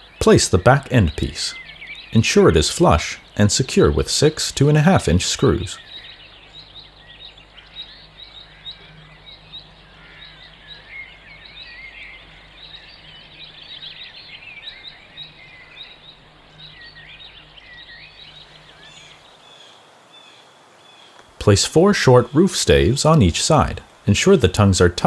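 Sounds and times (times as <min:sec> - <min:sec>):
faint steady low hum: 0:00.0 - 0:25.0
songbirds chirping and singing: 0:00.0 - 0:25.0.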